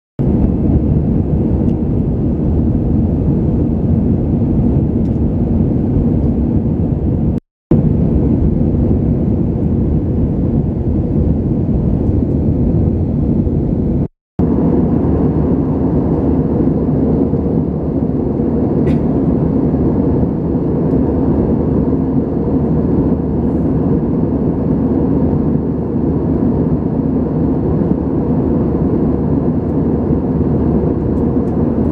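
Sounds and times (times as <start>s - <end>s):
airliner engine and airflow rumble: 0.2s - 31.9s.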